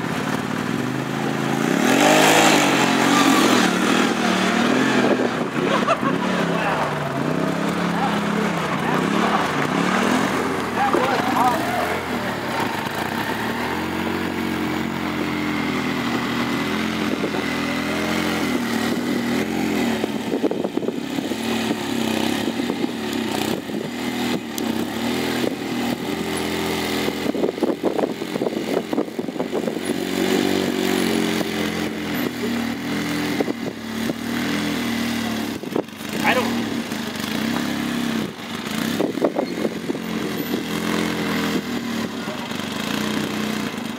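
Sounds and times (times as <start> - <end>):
engine revving under load: 0.0 - 43.9.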